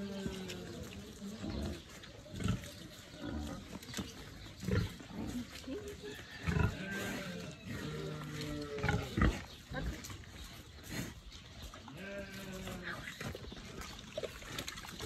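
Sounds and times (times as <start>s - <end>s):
pigs grunting: 0.0s - 15.0s.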